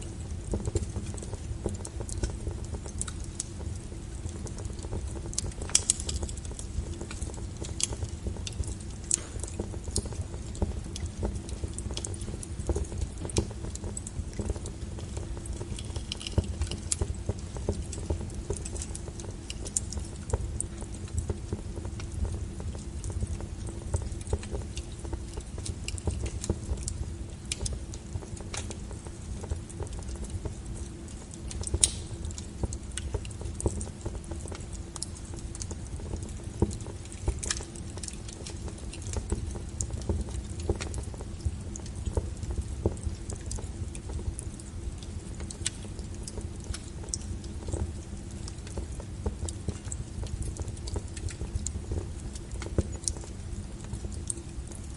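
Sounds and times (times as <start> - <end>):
low fire rumble: 0.0 - 54.9
wood fire crackling: 0.0 - 54.9.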